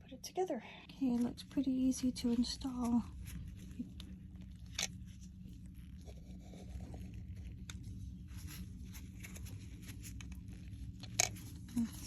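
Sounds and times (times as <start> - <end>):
steady low hum: 0.0 - 12.0
soft rustling: 1.0 - 12.0.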